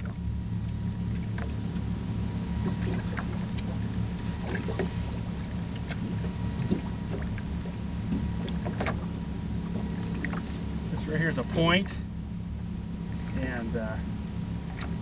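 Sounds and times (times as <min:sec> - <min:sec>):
boat engine hum: 0:00.0 - 0:15.0.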